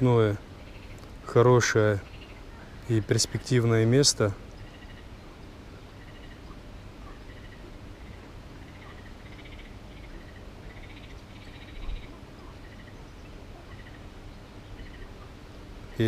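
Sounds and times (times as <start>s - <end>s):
frogs croaking: 0.0s - 16.0s.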